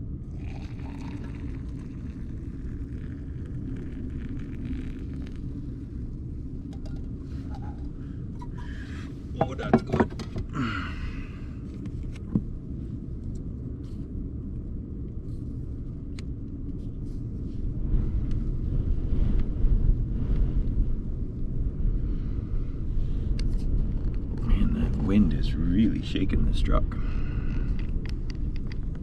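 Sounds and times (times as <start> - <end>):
wind gusts buffeting camper: 0.0 - 11.3, 17.0 - 29.0.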